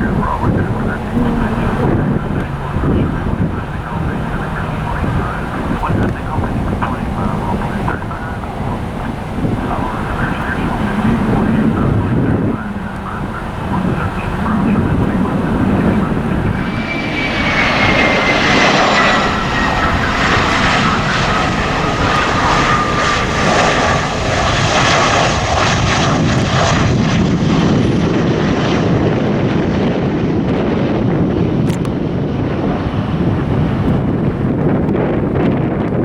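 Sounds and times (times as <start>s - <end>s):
airliner engine whine: 0.0s - 36.0s
low rumble of airliner: 0.0s - 36.0s.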